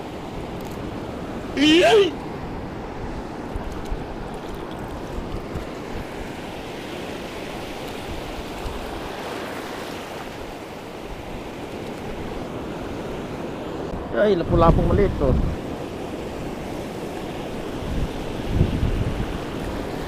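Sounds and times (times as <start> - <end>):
wind on microphone: 0.0 - 9.5, 10.3 - 20.0.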